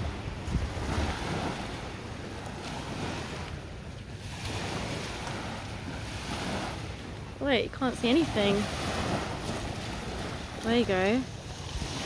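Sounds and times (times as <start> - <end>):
sea waves washing on shore: 0.0 - 12.0
wind buffeting microphone: 0.0 - 12.0.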